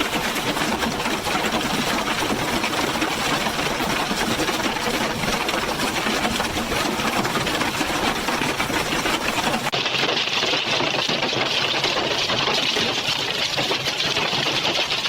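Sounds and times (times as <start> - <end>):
hail pelting down: 0.0 - 15.0.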